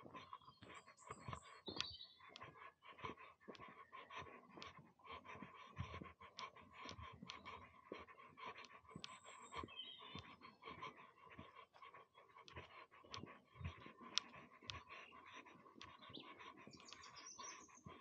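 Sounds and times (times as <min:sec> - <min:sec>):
bird chirping: 0:00.0 - 0:04.8, 0:06.4 - 0:18.0
footsteps on dirt path: 0:00.0 - 0:15.0.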